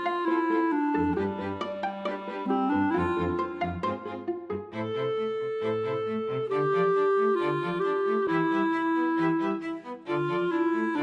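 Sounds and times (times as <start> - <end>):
bowed strings music: 0.0 - 11.0.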